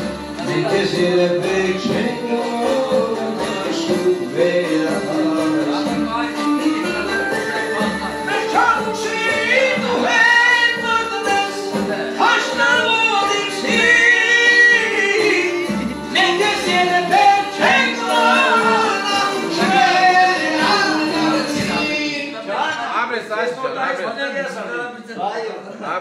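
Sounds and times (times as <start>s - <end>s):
musical accompaniment with low beat: 0.0s - 22.2s
man singing through loudspeaker: 0.0s - 22.8s.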